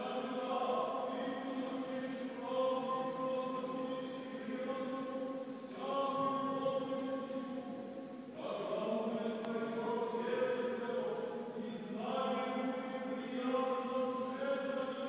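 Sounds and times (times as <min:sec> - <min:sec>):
church choir chanting: 0:00.0 - 0:15.0.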